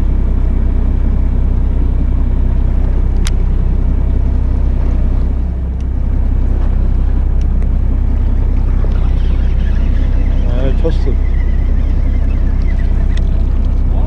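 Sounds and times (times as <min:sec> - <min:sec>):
fishing boat engine: 0:00.0 - 0:14.0
wind rumble: 0:00.0 - 0:14.0.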